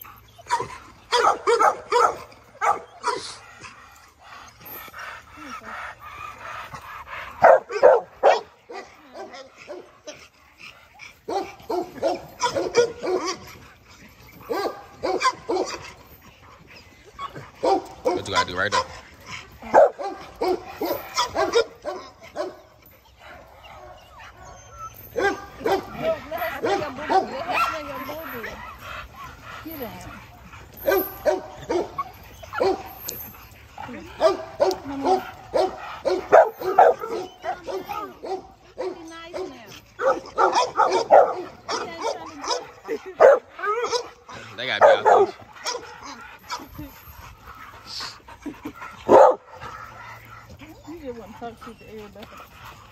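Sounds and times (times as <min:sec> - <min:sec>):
dogs barking and whining: 0:00.0 - 0:52.9.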